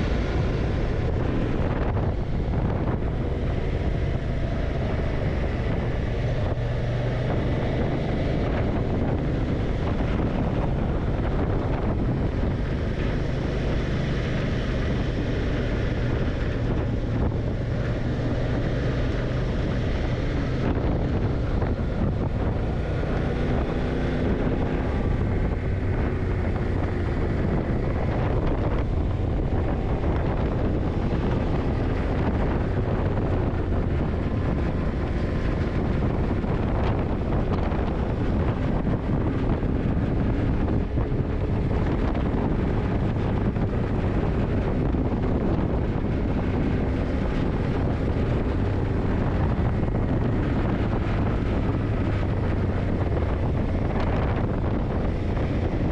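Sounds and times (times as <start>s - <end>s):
motorcycle engine cruising: 0.0s - 55.9s
wind rush on microphone: 0.0s - 55.9s.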